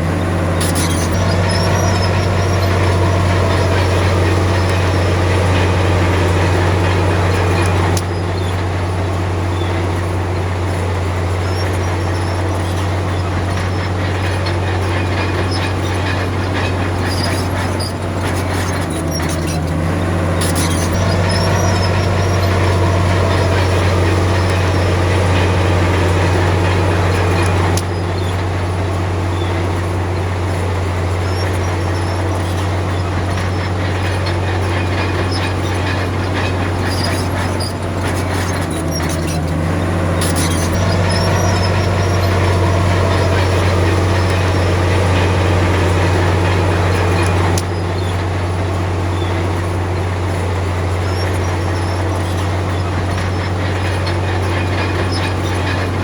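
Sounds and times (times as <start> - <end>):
bulldozer diesel engine under load: 0.0 - 56.0
steel tracks clanking and squealing: 0.0 - 56.0.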